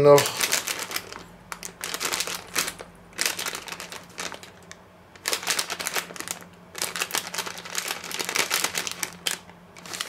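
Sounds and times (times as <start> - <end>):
plastic packet crinkling: 0.1 - 10.0.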